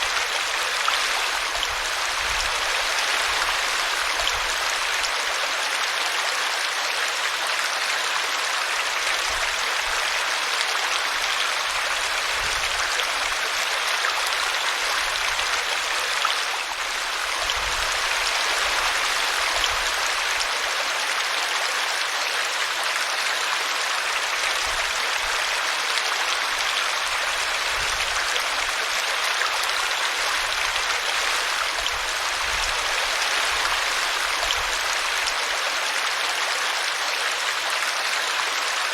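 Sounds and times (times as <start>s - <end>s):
brook water flowing: 0.0s - 38.9s.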